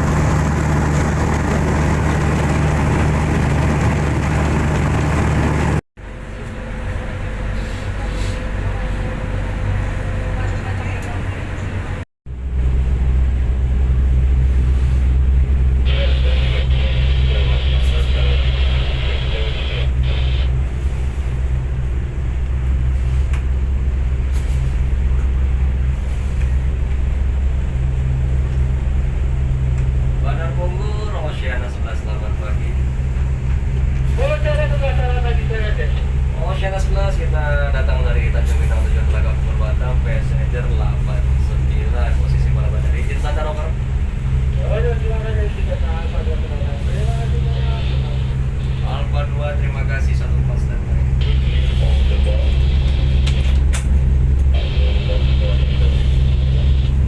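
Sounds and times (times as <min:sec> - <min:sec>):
ferry engines droning: 0:00.0 - 0:57.0.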